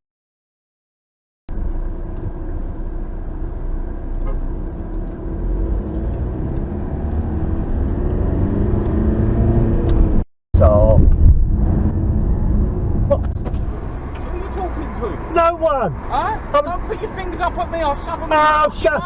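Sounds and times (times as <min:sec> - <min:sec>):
car engine: 0:01.5 - 0:19.0
road rumble: 0:01.5 - 0:19.0.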